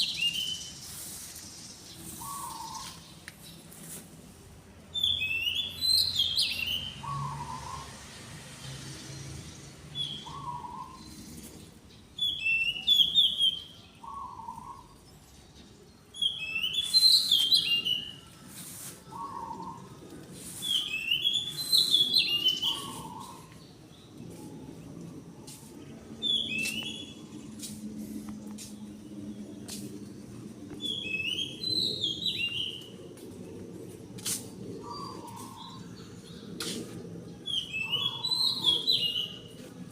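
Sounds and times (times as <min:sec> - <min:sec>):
songbird singing: 0:00.0 - 0:03.9, 0:04.9 - 0:08.3, 0:09.0 - 0:39.9.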